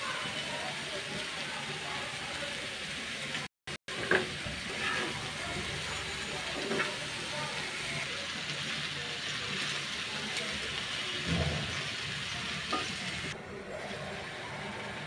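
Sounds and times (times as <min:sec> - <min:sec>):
pumpkin sizzling in oil: 0:00.0 - 0:15.0.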